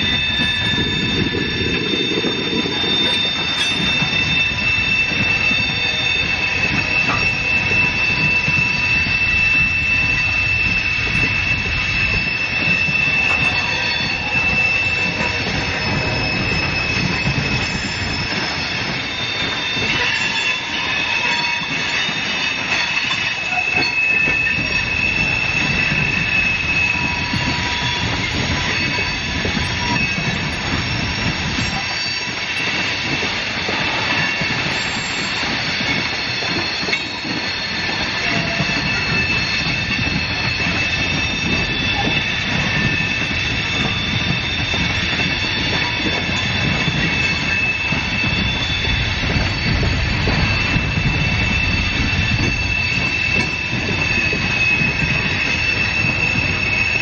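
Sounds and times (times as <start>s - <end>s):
steel wheels squealing: 0.0s - 57.0s
train cars rumbling past: 0.0s - 57.0s.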